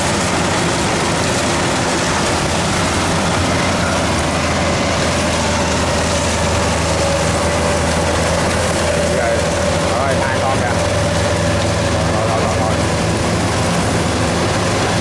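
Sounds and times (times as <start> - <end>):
harvester engine drone: 0.0 - 15.0.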